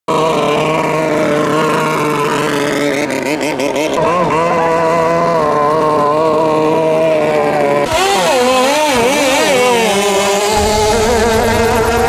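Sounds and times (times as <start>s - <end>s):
boat engine running high pitch: 0.1s - 12.0s.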